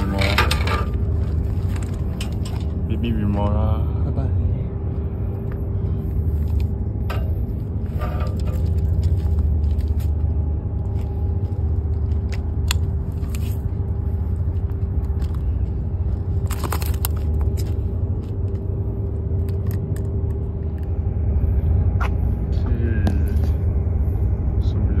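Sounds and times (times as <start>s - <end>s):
faint hum: 0.0s - 25.0s
low rumble: 0.0s - 25.0s.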